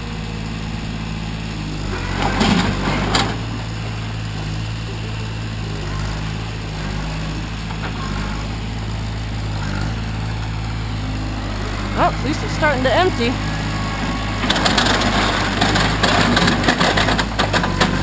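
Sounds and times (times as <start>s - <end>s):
tractor engine under load: 0.0s - 18.0s.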